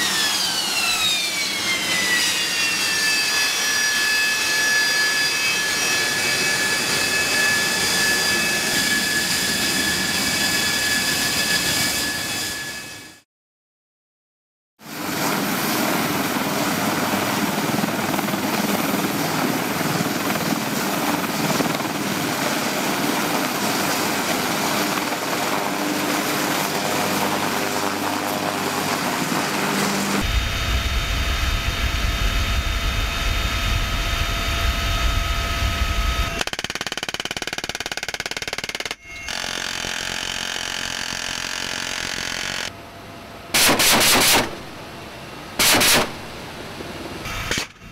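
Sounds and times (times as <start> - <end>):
helicopter turbine and rotor: 0.0 - 13.2, 14.8 - 47.9.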